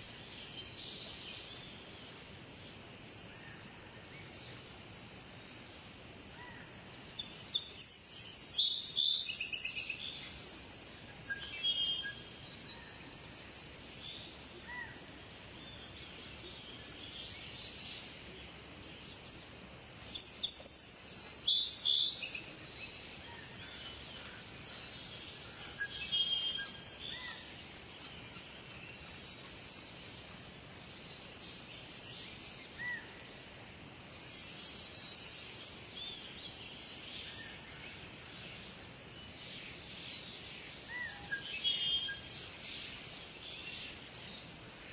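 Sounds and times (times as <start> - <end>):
outdoor background hiss: 0.0 - 44.9
birds singing and chirping: 6.4 - 19.4, 20.0 - 33.4, 34.2 - 44.9.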